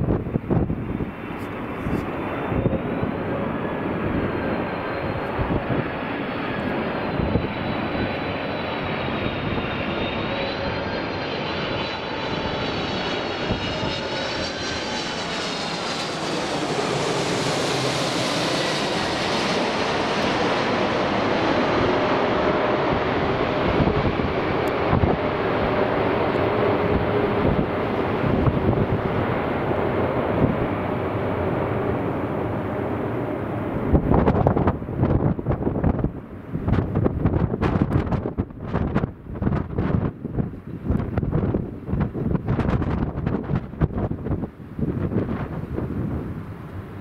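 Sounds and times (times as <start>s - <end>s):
jet engines running: 0.0s - 47.0s
wind buffeting microphone: 0.0s - 47.0s.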